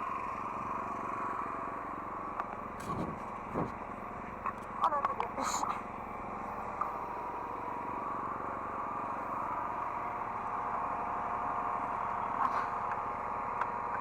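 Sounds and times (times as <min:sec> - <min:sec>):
excavator engine running: 0:00.0 - 0:14.0
hydraulic whine: 0:00.0 - 0:14.0.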